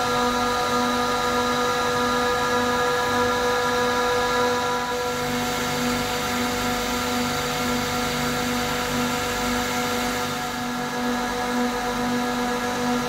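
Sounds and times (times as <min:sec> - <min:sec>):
compressor machine drone: 0:00.0 - 0:13.0.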